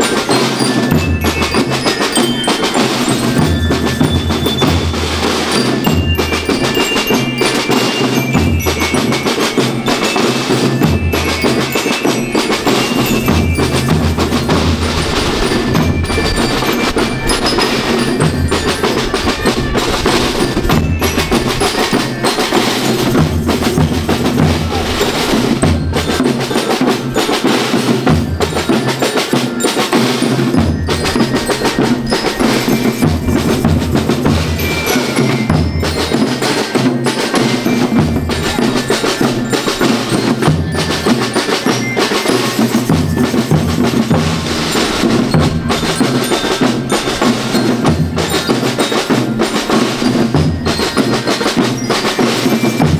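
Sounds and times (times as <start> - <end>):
drums beating: 0.0 - 52.9
metal bars melody: 0.0 - 52.9.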